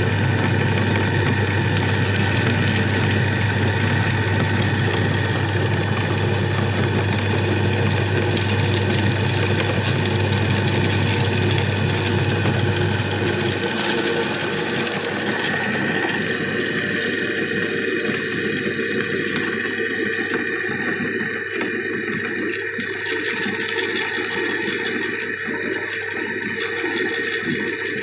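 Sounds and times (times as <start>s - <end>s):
electric meat grinder running: 0.0s - 28.0s.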